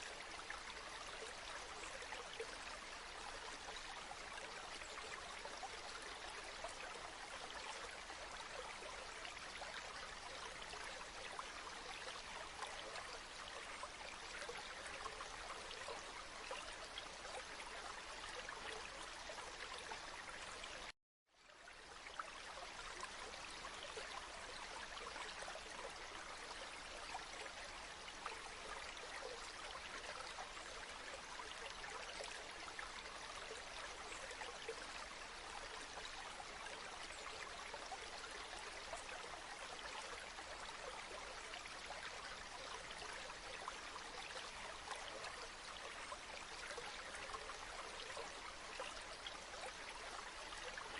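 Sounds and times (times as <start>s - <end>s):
stream water babbling: 0.0s - 50.9s.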